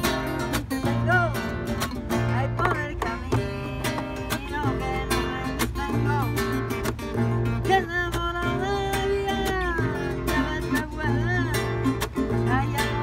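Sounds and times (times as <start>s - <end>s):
acoustic guitars playing flamenco: 0.0s - 13.0s.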